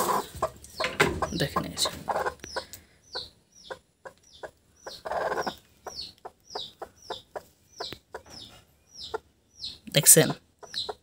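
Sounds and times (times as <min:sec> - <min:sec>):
chick peeping: 0:00.0 - 0:11.0
hen clucking: 0:00.0 - 0:11.0.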